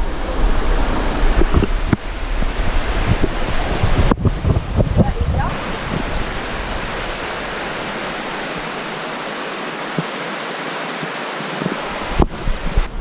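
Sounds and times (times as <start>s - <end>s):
waterfall rushing water: 0.0s - 13.0s.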